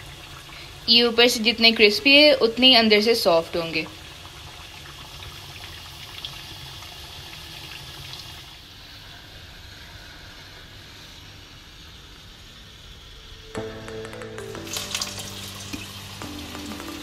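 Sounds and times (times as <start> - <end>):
kababs sizzling in oil: 0.0 - 17.0.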